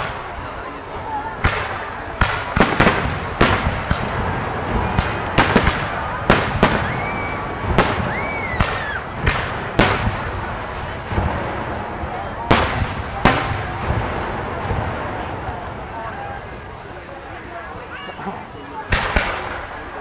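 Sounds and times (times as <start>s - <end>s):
rumbling echoes: 0.0s - 17.8s
fireworks bursting with sharp bangs: 0.0s - 18.1s, 18.7s - 20.0s.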